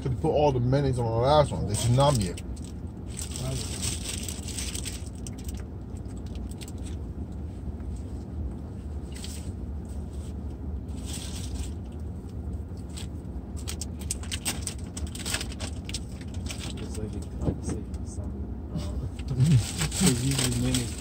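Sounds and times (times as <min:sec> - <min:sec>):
car cabin hum: 0:00.0 - 0:21.0.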